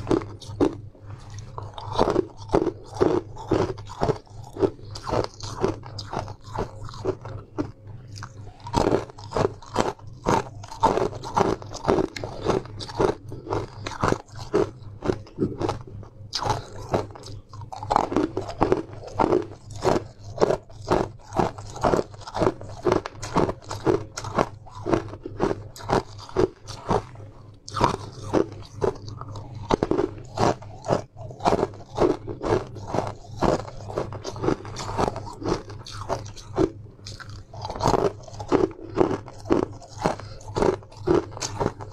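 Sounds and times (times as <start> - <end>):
crunching of frozen ice: 0.0 - 41.9.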